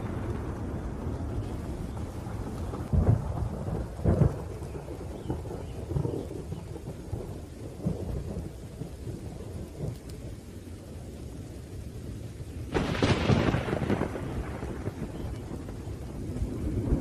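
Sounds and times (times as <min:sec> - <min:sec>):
loud thunder claps: 0:00.0 - 0:10.1, 0:12.6 - 0:17.0
rain: 0:00.0 - 0:17.0
rumbling thunder: 0:00.0 - 0:17.0.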